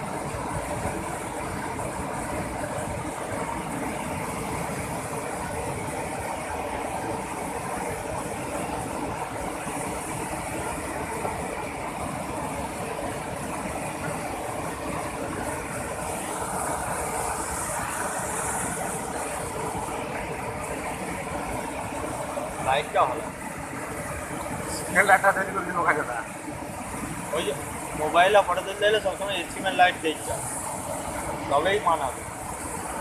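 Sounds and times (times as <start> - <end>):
floodwater rushing over weir: 0.0 - 33.0.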